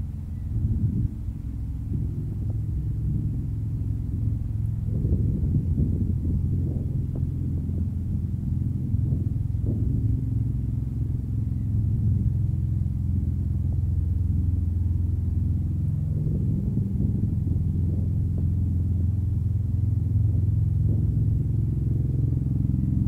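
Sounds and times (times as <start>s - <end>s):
engine low rumble: 0.0s - 23.0s.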